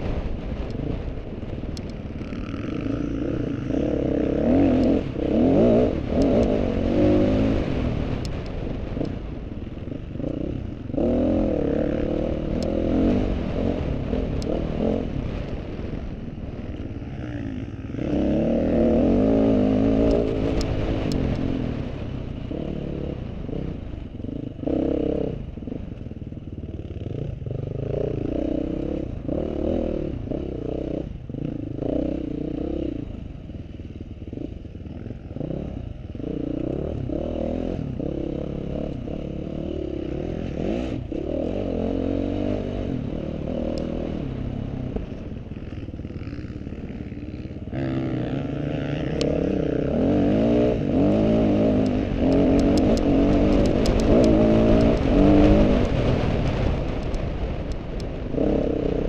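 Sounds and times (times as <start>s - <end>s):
engine revving: 0.0s - 9.4s, 10.0s - 25.6s, 34.3s - 59.0s.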